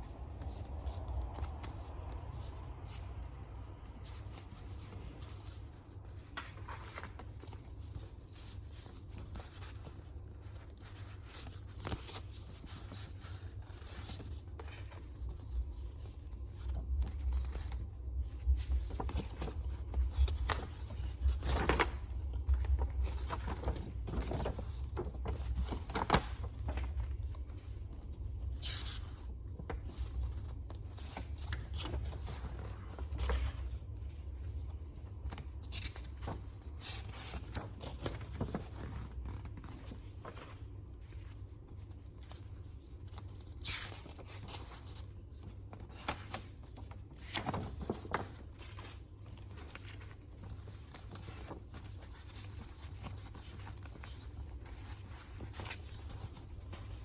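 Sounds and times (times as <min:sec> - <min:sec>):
paper and plastic rustling: 0:00.0 - 0:57.0.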